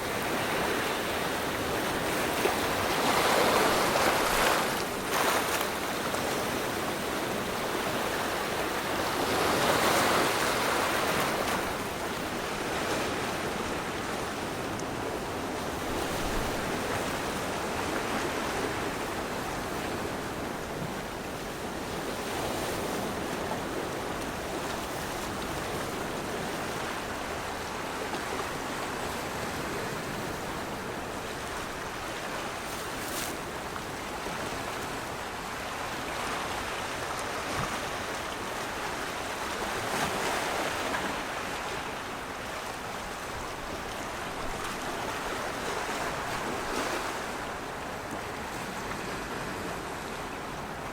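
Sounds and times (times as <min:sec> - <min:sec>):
rushing water: 0:00.0 - 0:50.9.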